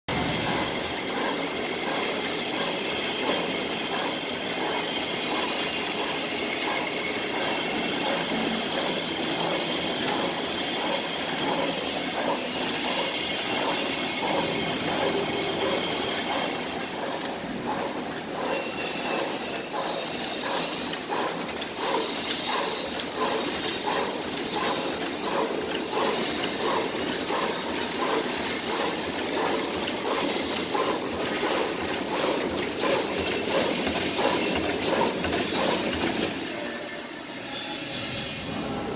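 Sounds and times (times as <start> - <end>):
bag making machine clatter: 0.1 - 36.6.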